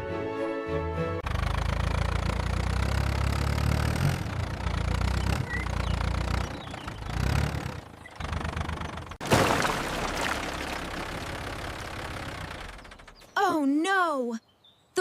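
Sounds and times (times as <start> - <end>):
tractor engine rumbling: 1.2 - 13.8.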